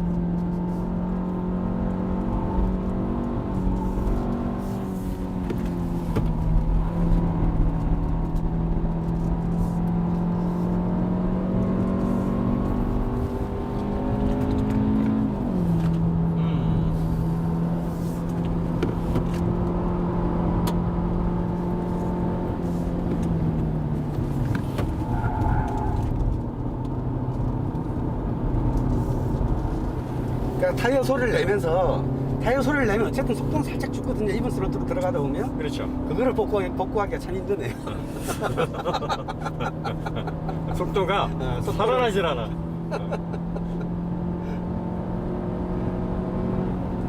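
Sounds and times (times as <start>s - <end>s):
car engine droning under throttle: 0.0s - 47.0s.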